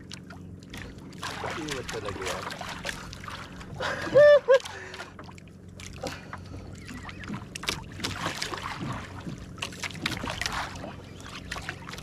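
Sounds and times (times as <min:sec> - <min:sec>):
steady low hum: 0:00.0 - 0:12.0
water splashing: 0:00.0 - 0:12.0.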